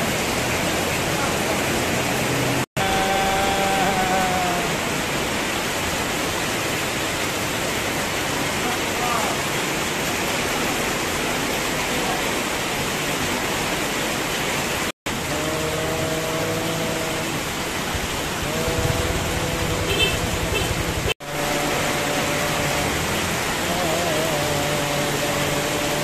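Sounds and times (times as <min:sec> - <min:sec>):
heavy rain on awnings: 0:00.0 - 0:26.0.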